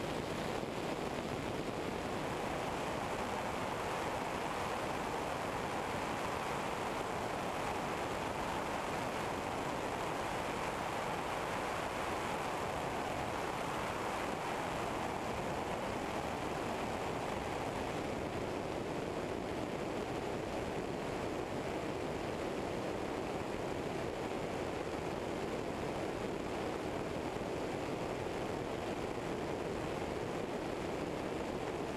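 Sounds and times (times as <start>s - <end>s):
wind noise rushing over camera: 0.0s - 31.9s.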